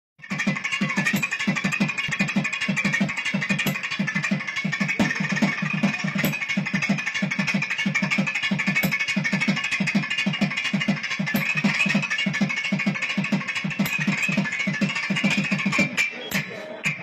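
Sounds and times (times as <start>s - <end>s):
barrel drums playing fast rhythm: 0.2s - 17.0s.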